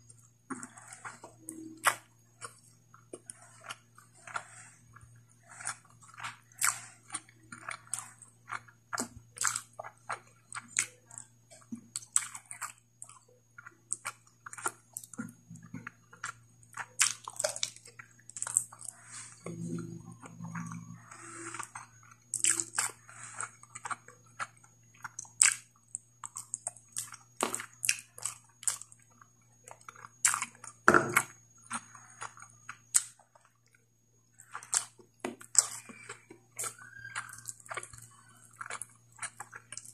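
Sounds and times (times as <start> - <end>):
wet chewing and lip smacks: 0.0 - 33.8, 34.4 - 39.9
faint low hum: 0.0 - 39.9.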